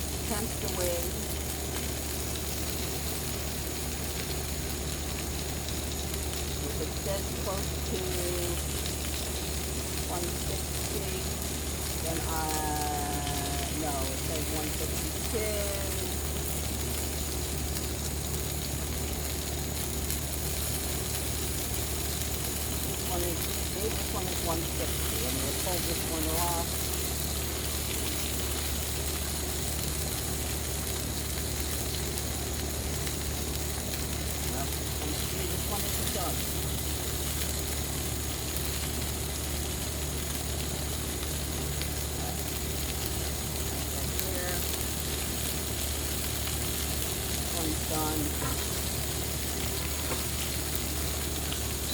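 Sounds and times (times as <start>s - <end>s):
chicken wings sizzling: 0.0s - 51.9s
electric grill fan humming: 0.0s - 51.9s.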